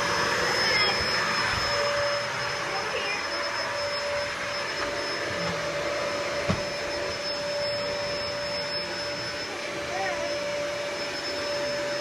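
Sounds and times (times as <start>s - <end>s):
upright vacuum cleaner whining: 0.0s - 12.0s.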